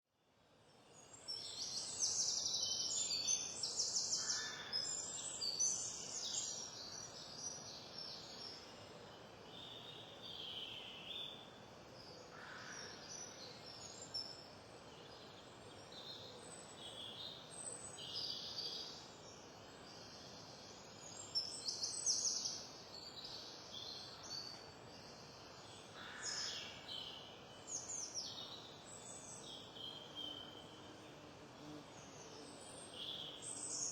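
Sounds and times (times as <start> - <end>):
songbirds chirping and trilling: 0.6 - 33.9.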